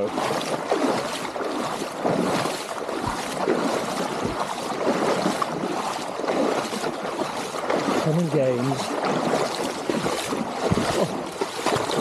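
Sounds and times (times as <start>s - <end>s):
feet sloshing through water: 0.0s - 12.0s.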